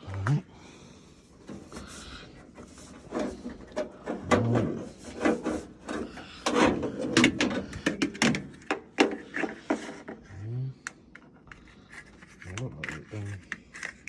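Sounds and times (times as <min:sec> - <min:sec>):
clicks knocks and rubbing of parts: 0:01.4 - 0:14.0.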